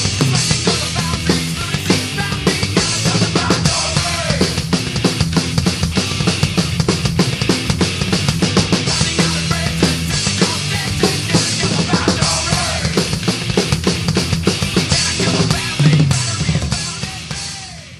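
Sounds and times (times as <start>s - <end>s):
drum kit played hard: 0.0s - 17.9s
heavy metal backing track: 0.0s - 17.9s.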